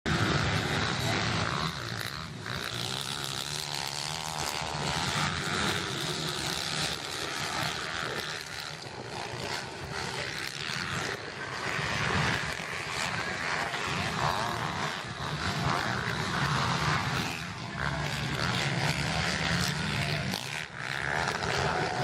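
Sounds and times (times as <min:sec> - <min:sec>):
motocross motorcycle engines running: 0:00.1 - 0:22.0.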